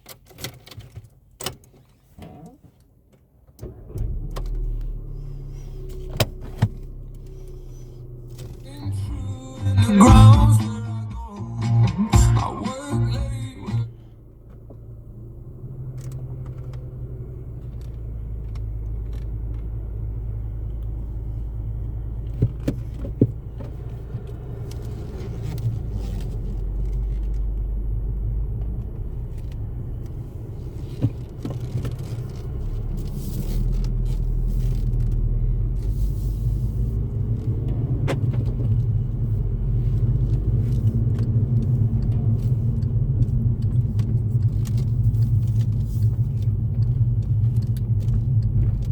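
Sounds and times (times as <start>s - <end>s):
low car engine rumble: 2.2s - 48.9s.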